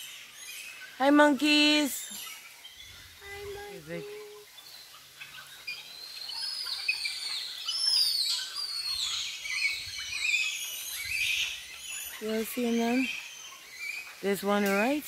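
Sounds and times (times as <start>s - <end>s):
monkeys squealing and chirping: 2.2s - 14.8s.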